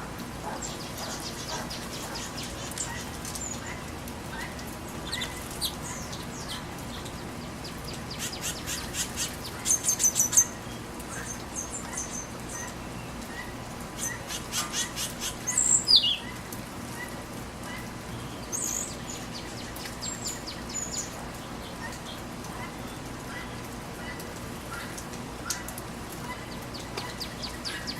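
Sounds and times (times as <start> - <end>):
rain hiss: 0.0 - 27.9
birds chirping: 0.5 - 16.4, 17.0 - 24.2, 24.8 - 27.9.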